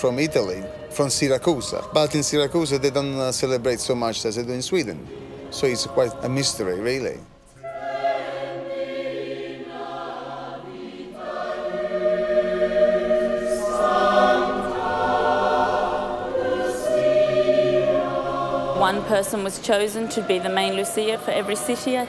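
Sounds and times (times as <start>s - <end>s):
choir singing held notes: 0.0s - 22.0s.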